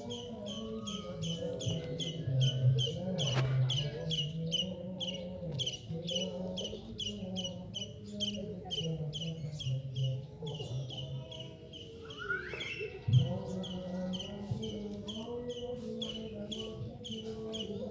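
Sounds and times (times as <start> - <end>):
high chirping beat: 0.0 - 17.8.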